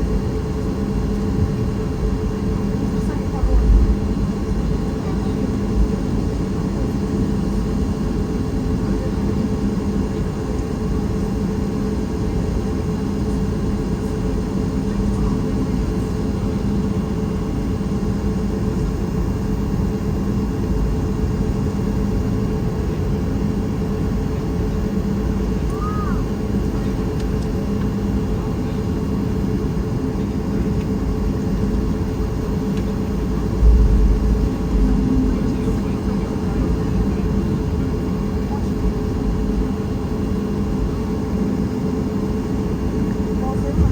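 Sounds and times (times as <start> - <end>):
airliner cabin rumble and hum: 0.0 - 43.9.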